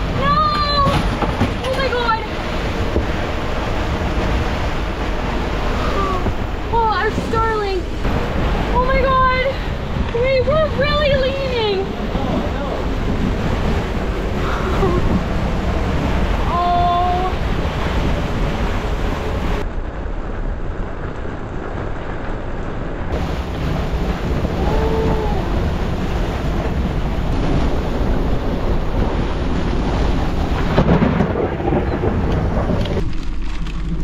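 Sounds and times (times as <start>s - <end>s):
rain: 0.0s - 34.0s
rough sea: 0.0s - 34.0s
wind buffeting microphone: 0.0s - 34.0s.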